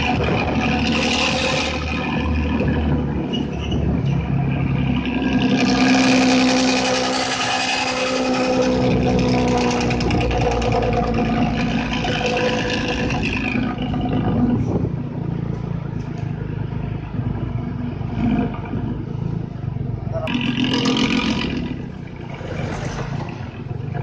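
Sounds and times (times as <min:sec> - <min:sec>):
bus diesel engine growling: 0:00.0 - 0:24.0.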